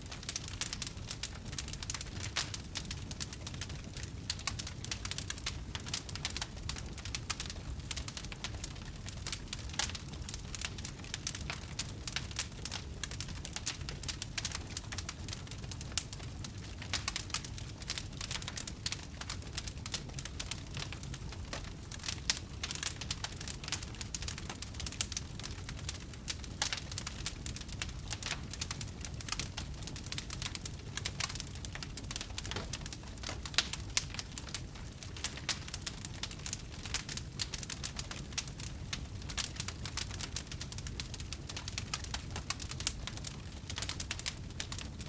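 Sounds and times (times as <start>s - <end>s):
low rumble of burning fire: 0.0s - 45.0s
campfire crackling and popping: 0.1s - 45.0s.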